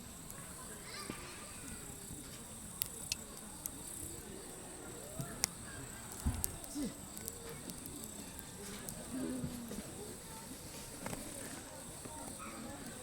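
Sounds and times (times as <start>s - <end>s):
campfire crackling and popping: 0.0s - 13.0s
crickets chirring: 0.0s - 13.0s
distant voices murmuring: 0.0s - 13.0s.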